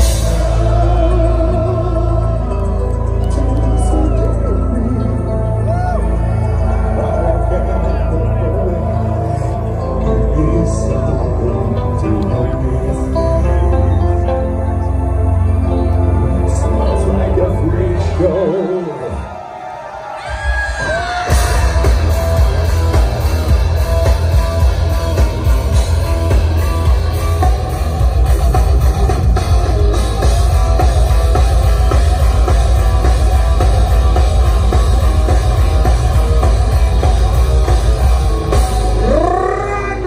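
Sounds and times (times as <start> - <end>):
heavy metal band playing live: 0.0 - 19.3, 20.3 - 40.0.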